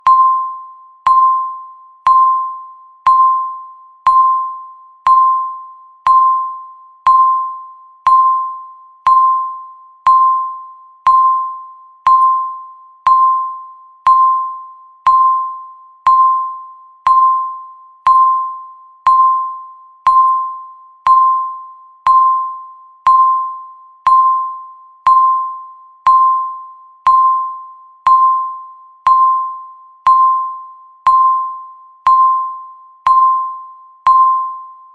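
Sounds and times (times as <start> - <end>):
electronic timer beeps: 0.0 - 34.9.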